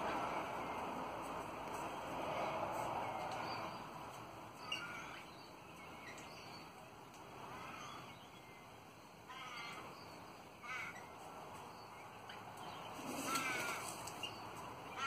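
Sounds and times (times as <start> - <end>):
broad rush of background noise: 0.0 - 15.0.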